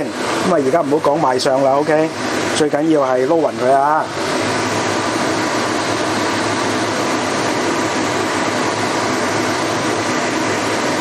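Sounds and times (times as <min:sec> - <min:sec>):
kitchen extractor fan whoosh: 0:00.0 - 0:11.0.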